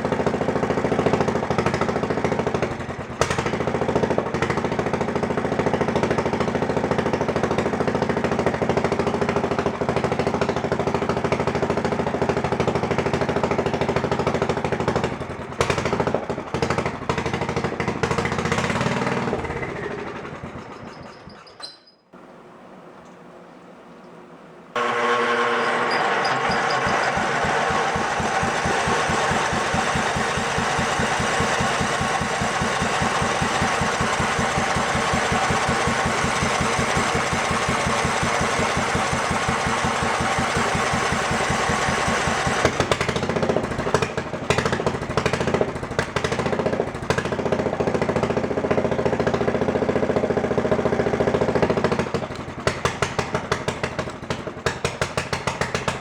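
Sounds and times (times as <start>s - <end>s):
engine popping: 0.0s - 21.2s, 24.8s - 56.0s
riding mower engine running: 0.0s - 21.5s, 22.2s - 56.0s.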